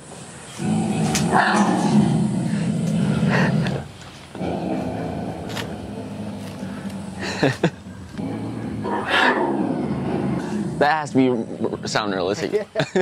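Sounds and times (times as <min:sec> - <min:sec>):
mountain lion growling: 0:00.6 - 0:12.0.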